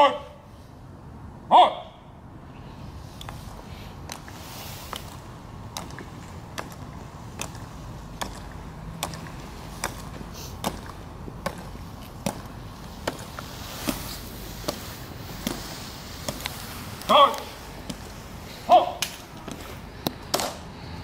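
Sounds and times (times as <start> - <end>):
marching footsteps on stone: 3.2 - 20.5.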